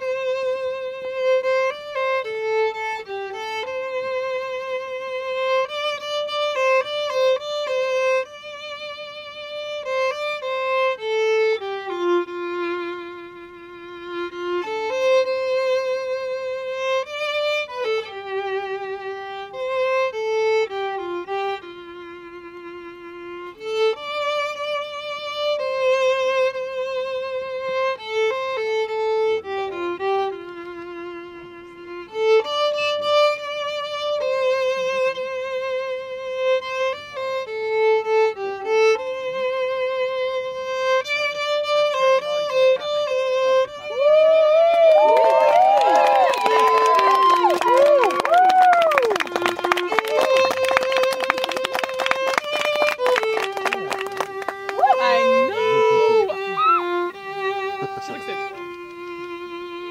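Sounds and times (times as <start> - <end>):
solo violin melody: 0.0 - 59.9.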